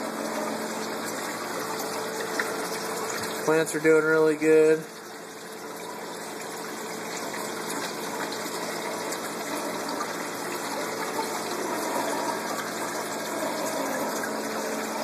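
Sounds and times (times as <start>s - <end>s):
low pump hum: 0.0s - 15.0s
water running: 0.0s - 15.0s.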